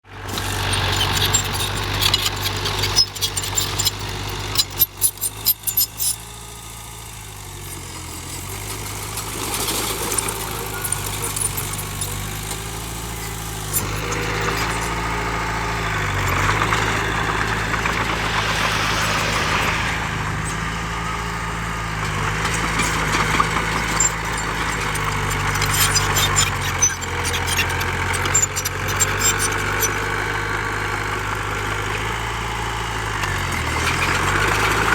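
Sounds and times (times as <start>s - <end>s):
heavy diesel machinery running: 0.1s - 34.9s.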